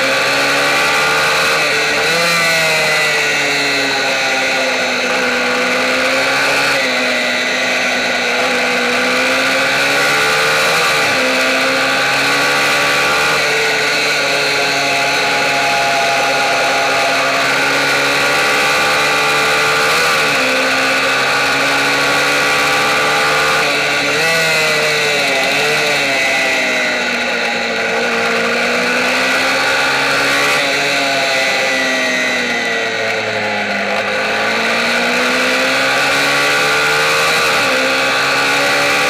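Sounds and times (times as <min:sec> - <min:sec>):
small motorbike engine revving: 0:00.0 - 0:39.0.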